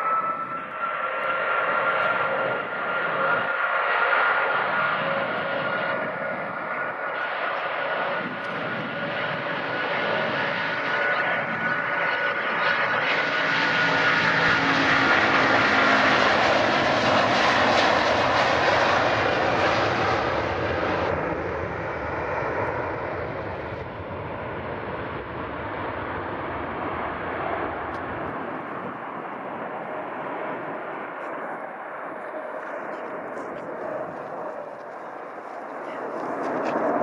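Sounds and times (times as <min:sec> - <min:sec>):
airliner engines roaring past: 0:00.0 - 0:37.0.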